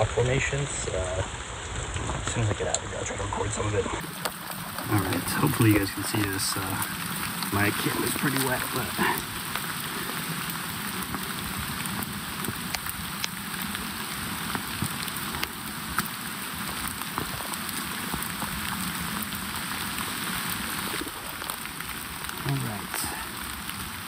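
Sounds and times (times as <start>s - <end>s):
sharp ticks of raindrops: 0.0s - 24.0s
steady rain falling: 0.0s - 24.0s.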